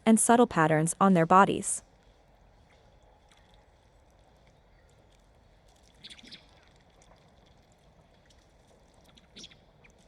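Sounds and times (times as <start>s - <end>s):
faint water ambience: 0.0s - 10.0s
water drips: 1.8s - 10.0s.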